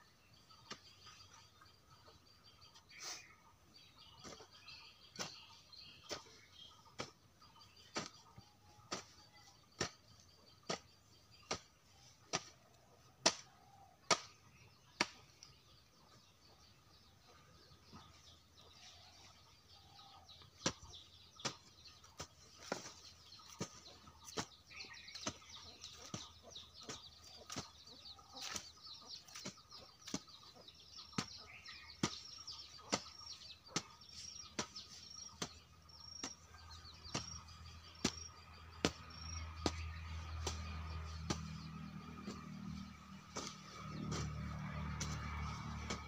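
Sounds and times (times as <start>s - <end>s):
bird chirping: 0.0s - 46.0s
hoe chopping into soil: 4.0s - 15.6s, 19.9s - 46.0s.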